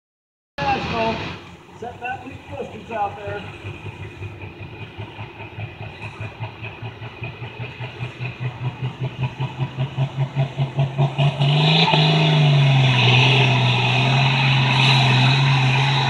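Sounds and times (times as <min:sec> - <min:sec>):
tractor diesel engine pulling: 0:00.6 - 0:16.0.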